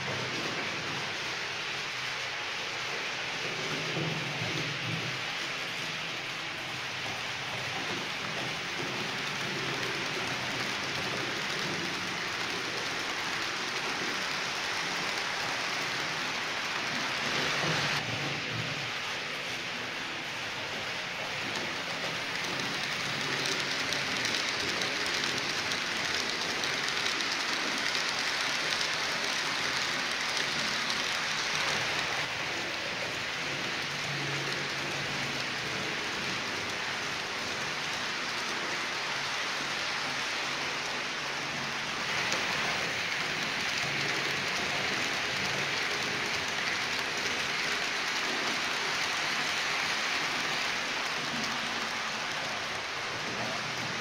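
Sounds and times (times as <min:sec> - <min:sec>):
model train wheels rattling: 0:00.0 - 0:18.0, 0:20.5 - 0:54.0.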